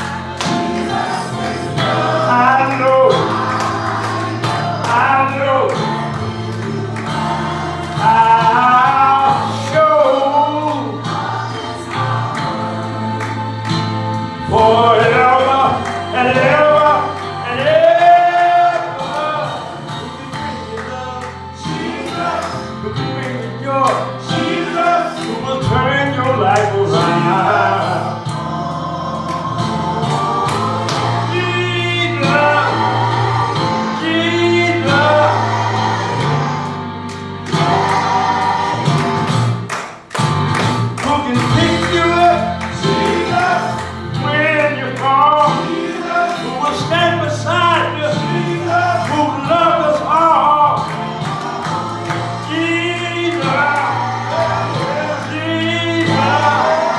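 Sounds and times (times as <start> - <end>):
low bass notes: 0.0 - 45.8
gospel singers: 0.0 - 56.9.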